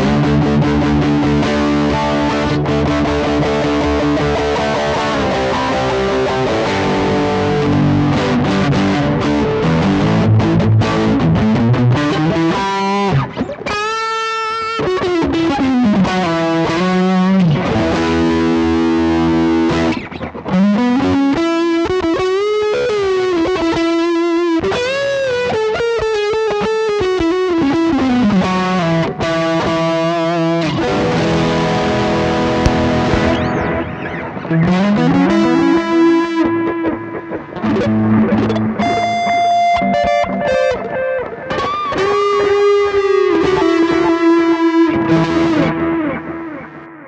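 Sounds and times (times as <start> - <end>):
overdriven electric guitar lead: 0.0 - 47.0.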